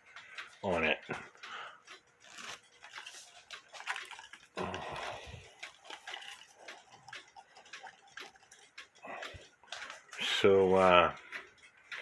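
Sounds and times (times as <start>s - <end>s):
light ticks and clicks: 0.0s - 12.0s.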